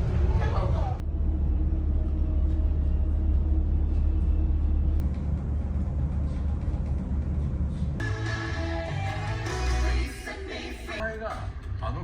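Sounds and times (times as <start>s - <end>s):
music: 1.0s - 12.0s.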